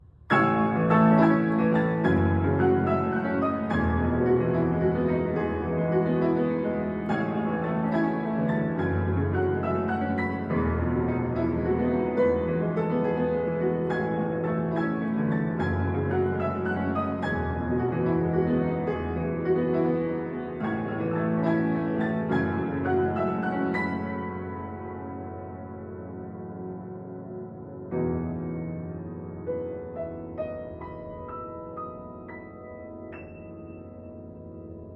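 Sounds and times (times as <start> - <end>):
slow sad piano melody: 0.0 - 34.9.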